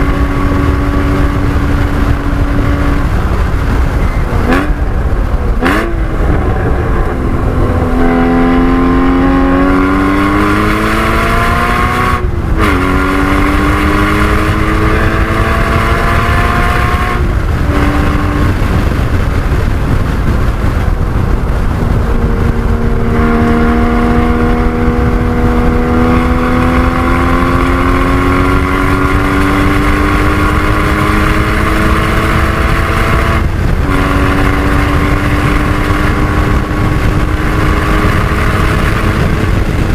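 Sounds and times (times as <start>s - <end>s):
car engine accelerating hard: 0.0s - 39.9s
road and wind noise: 0.0s - 39.9s.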